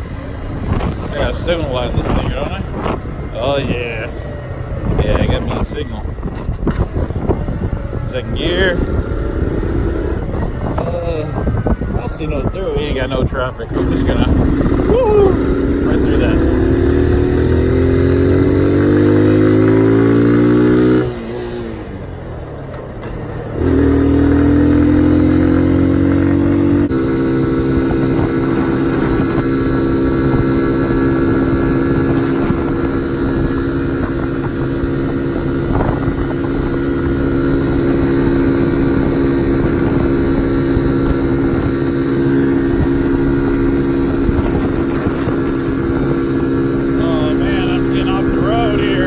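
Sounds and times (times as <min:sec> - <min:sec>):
motorcycle engine revving under load: 0:00.0 - 0:49.0.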